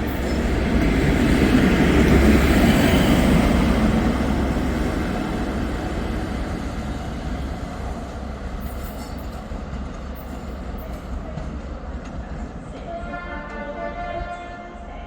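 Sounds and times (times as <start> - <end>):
diesel train rumble: 0.0 - 14.9.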